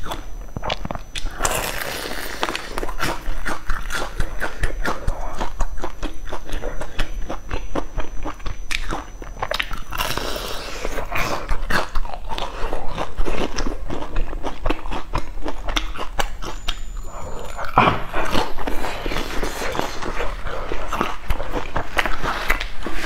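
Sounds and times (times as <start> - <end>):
crunchy food being chewed: 0.0 - 23.0.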